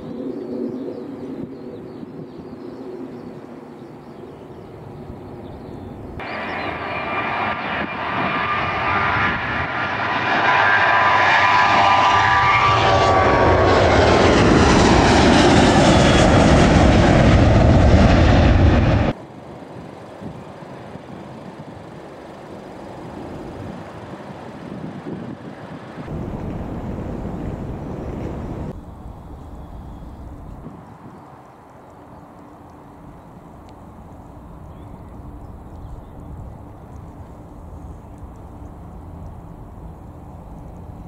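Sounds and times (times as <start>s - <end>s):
distant airliner rumble: 0.0s - 41.0s
jet engines at high power: 0.0s - 41.0s.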